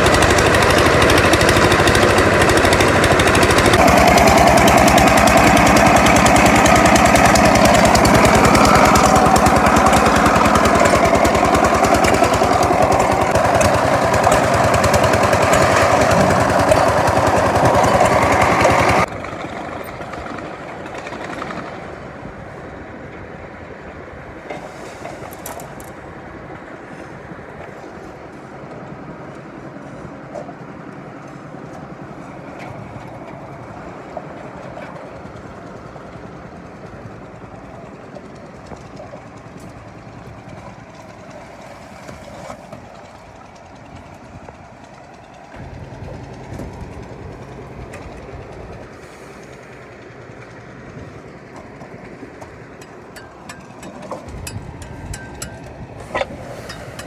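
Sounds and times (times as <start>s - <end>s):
concrete mixer and hoist running: 0.0s - 57.0s.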